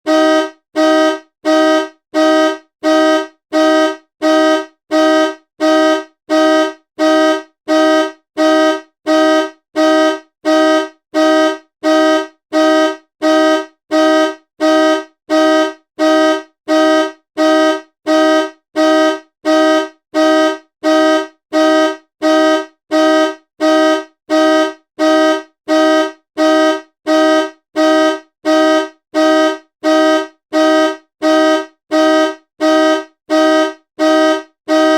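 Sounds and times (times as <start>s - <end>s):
car horn honking: 0.0s - 34.9s.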